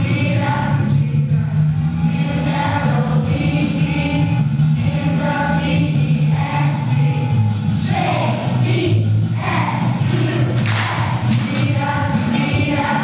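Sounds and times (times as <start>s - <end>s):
group singing children's song: 0.0s - 13.0s.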